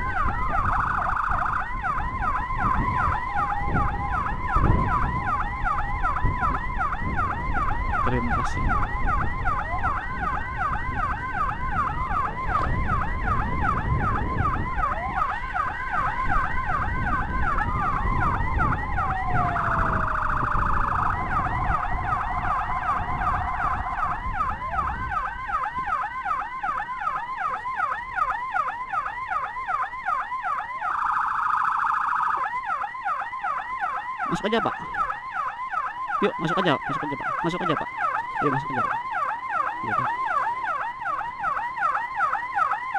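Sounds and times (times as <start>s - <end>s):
electronic siren yelp: 0.0s - 42.9s
road noise: 0.0s - 42.9s
siren hi-lo warble: 0.0s - 42.9s.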